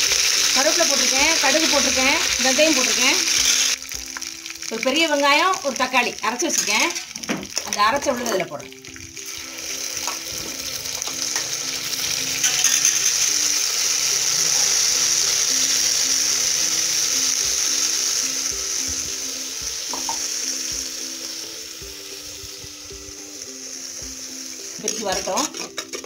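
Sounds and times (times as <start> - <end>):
paste sizzling in hot oil: 0.0 - 26.0
simple background melody: 0.0 - 26.0.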